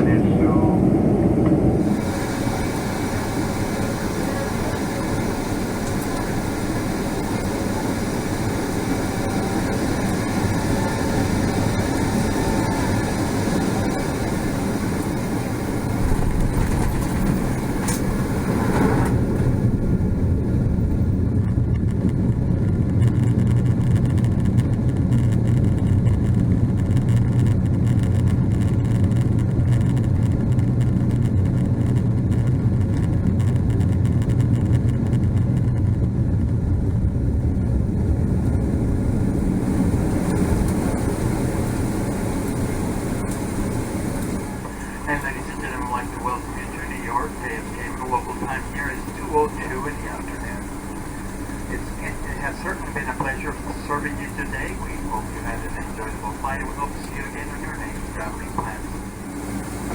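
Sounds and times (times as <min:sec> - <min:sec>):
airliner cabin engine rumble: 0:00.0 - 0:59.9
low hum: 0:00.0 - 0:59.9.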